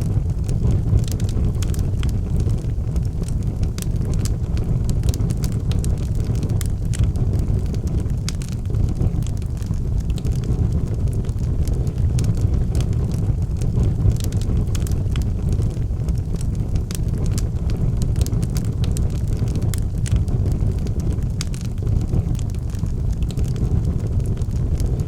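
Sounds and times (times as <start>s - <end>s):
fire crackling and popping: 0.0s - 25.0s
fire flames rumbling: 0.0s - 25.0s.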